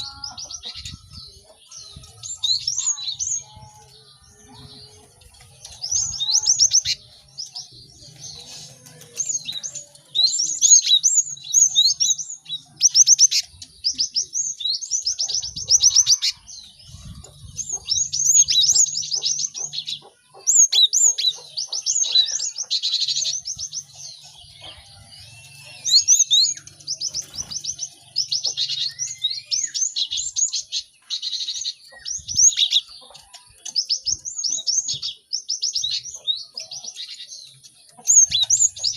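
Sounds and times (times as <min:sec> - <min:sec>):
birds chirping sharply: 0:00.0 - 0:38.9.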